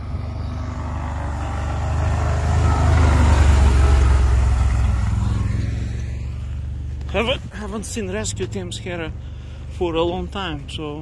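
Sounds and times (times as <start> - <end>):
vehicle engine rumble passing: 0.0 - 11.0.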